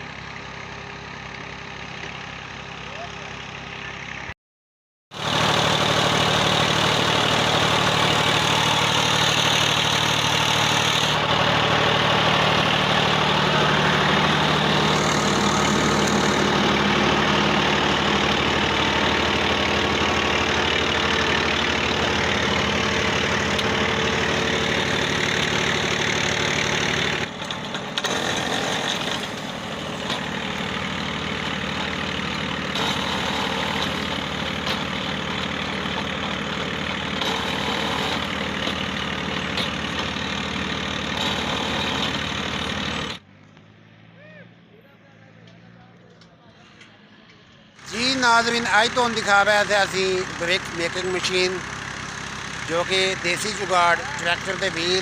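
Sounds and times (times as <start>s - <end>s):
tractor engine running: 0.0s - 4.3s, 5.1s - 44.1s, 44.8s - 55.0s.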